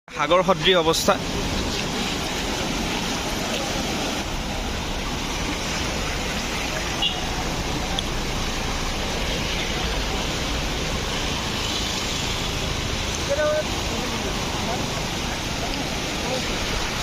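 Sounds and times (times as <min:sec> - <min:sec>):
floodwater rushing: 0:00.1 - 0:17.0.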